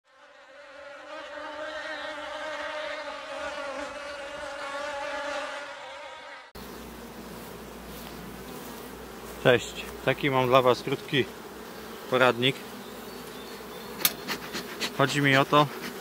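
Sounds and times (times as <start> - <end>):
bee buzzing: 0.1 - 16.0
honeybees humming over hive: 0.1 - 16.0.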